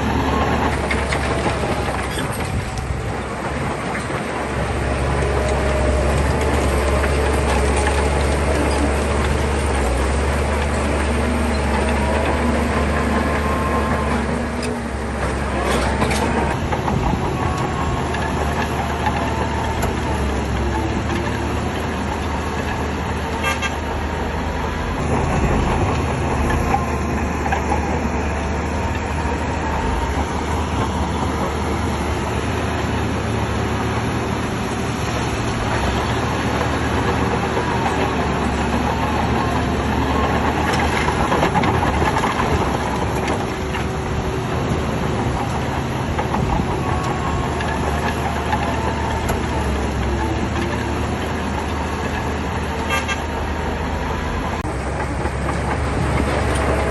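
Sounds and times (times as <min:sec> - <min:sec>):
bulldozer diesel engine rumbling: 0:00.0 - 0:56.9
steel tracks clanking: 0:00.0 - 0:56.9.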